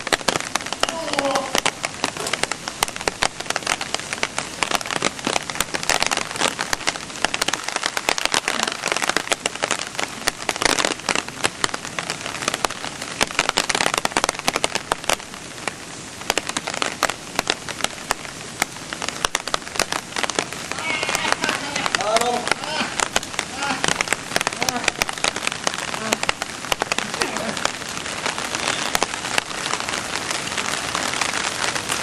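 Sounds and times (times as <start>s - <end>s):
rain on hard ground: 0.0s - 32.0s.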